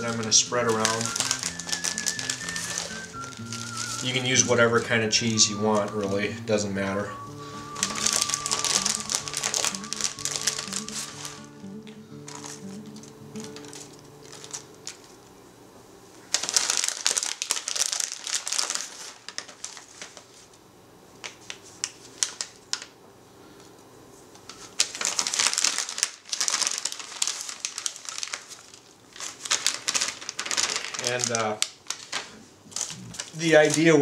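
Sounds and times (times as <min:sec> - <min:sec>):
plastic bag crinkling: 0:00.0 - 0:06.3, 0:07.1 - 0:15.3, 0:16.2 - 0:20.6, 0:21.2 - 0:22.9, 0:24.5 - 0:34.0.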